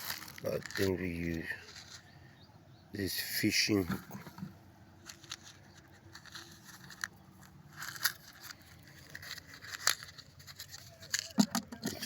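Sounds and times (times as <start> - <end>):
small objects clicking and rustling: 0.0 - 2.1, 4.2 - 12.0.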